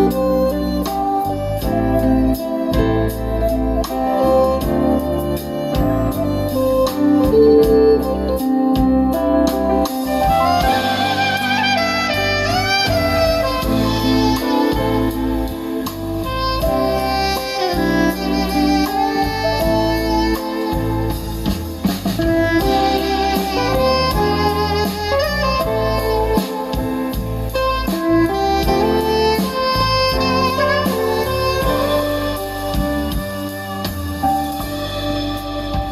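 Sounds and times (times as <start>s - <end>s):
instrumental music through loudspeaker: 0.0s - 35.9s.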